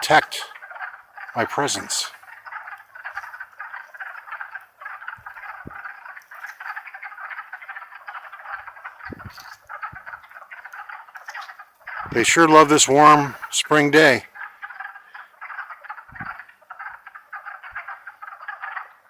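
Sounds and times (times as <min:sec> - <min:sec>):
frogs clucking: 0:00.0 - 0:19.0.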